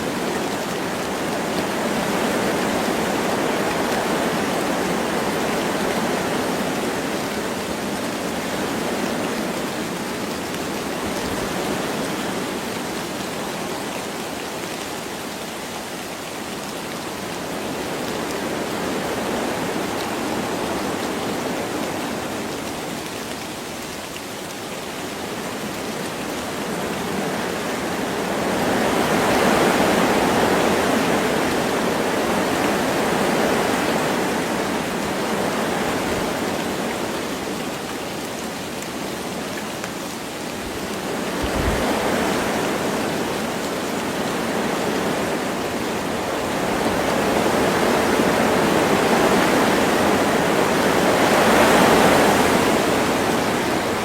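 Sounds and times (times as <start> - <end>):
light rain falling: 0.0 - 54.0
wind gusting through trees: 0.0 - 54.0.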